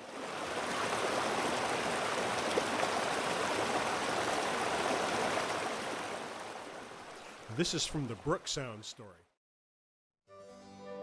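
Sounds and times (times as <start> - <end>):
recorded rain and running water: 0.0 - 9.1.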